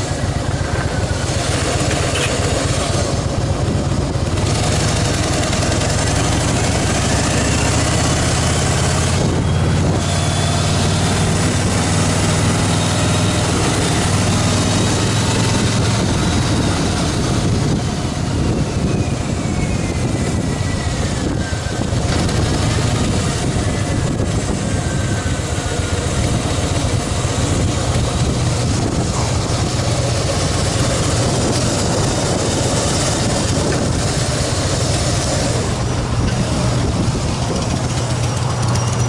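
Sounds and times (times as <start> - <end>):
motorcycle engine running and idling: 0.0 - 39.0.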